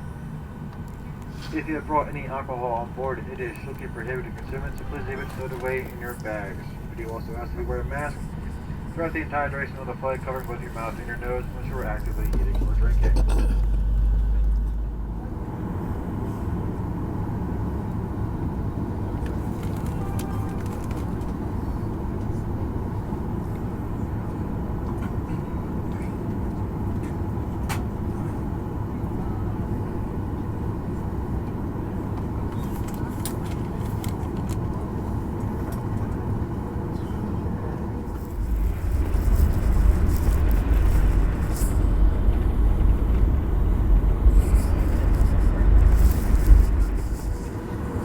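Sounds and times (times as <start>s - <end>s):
helicopter engine and rotor rumble: 0.0s - 48.0s.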